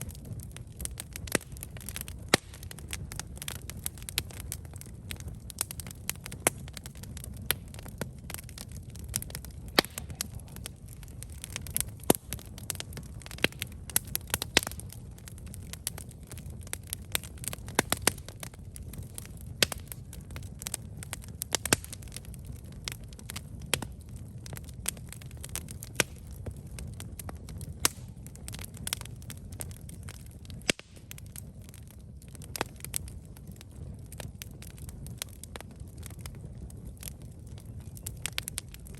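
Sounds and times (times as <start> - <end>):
campfire crackling and popping: 0.0 - 38.9
low rush of flame: 0.0 - 38.9.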